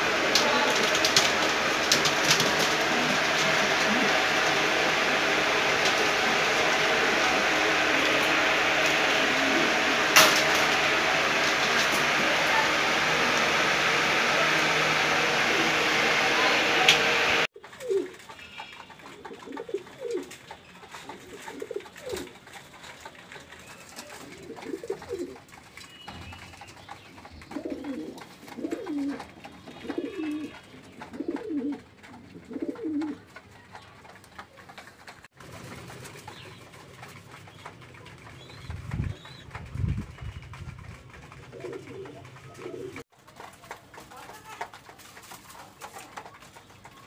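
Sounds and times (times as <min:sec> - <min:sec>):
pigeons cooing: 0:00.0 - 0:34.9, 0:35.5 - 0:43.0.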